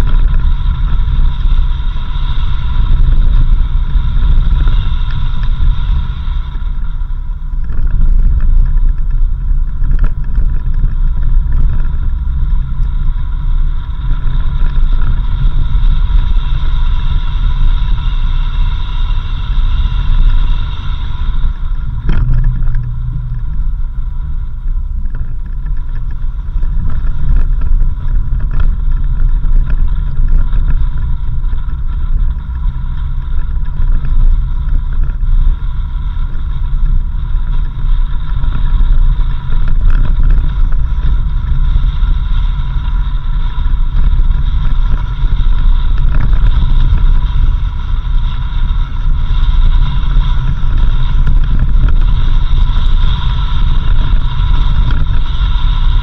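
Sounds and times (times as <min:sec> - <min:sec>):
vehicle driving on dirt road: 0:00.0 - 0:56.0.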